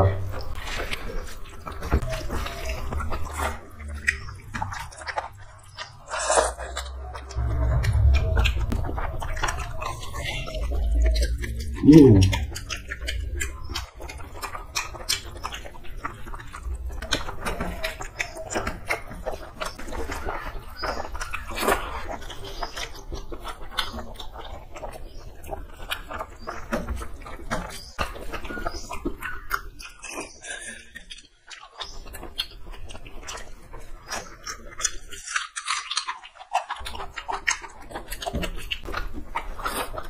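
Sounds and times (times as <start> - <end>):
wet chewing and lip-smacking: 0.3 - 8.4, 9.2 - 40.0.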